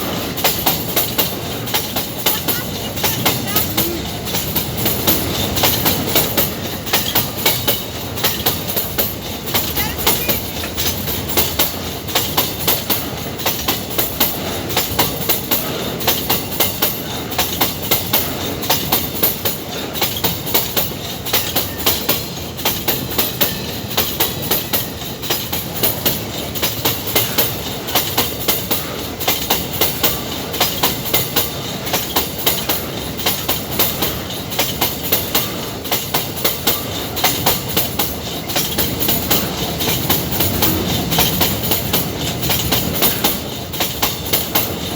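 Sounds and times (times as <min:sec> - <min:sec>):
continuous train rumble: 0:00.0 - 0:44.9
train wheels clicking over rail joints: 0:00.0 - 0:44.9.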